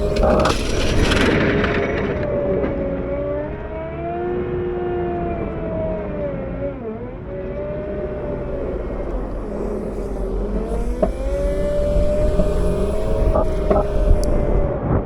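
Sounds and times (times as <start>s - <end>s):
wheel loader engine whine: 0.0s - 15.0s.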